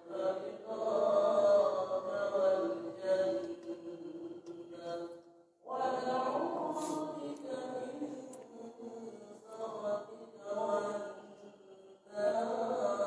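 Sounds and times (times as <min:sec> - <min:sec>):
voices chanting a slow melody: 0:00.0 - 0:13.0.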